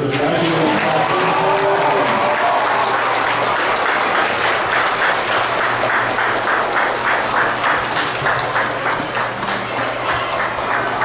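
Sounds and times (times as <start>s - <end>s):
crowd clapping in rhythm: 0.0s - 11.0s.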